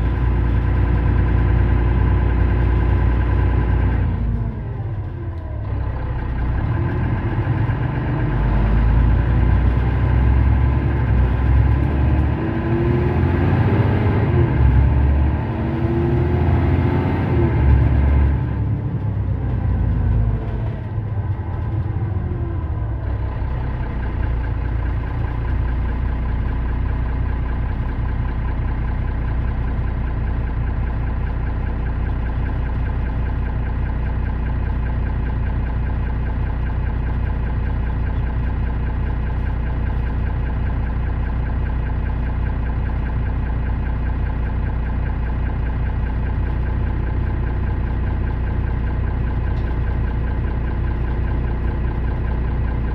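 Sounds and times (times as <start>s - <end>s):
bus engine idling: 0.0s - 52.9s.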